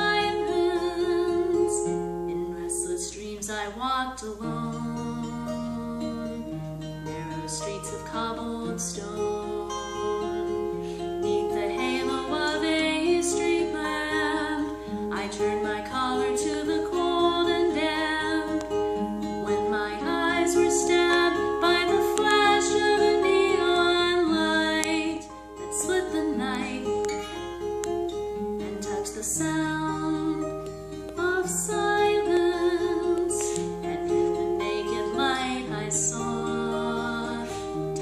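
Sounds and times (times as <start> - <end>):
person singing: 0.0 - 27.5, 28.6 - 38.0
strummed acoustic guitar: 0.0 - 38.0.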